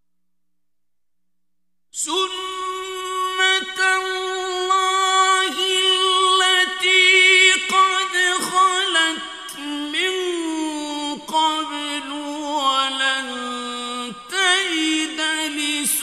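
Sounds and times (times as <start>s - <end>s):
man chanting melodically: 2.0s - 16.0s.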